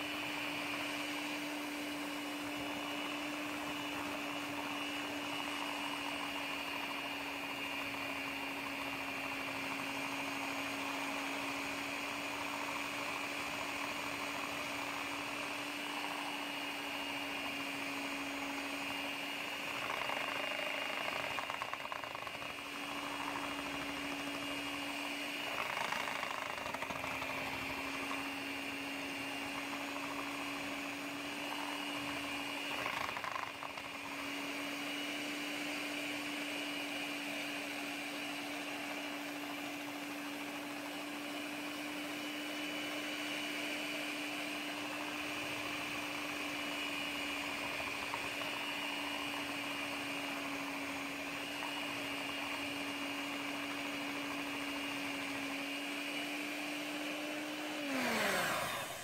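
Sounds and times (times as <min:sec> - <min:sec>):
electric mixer whining: 0:00.0 - 0:59.0.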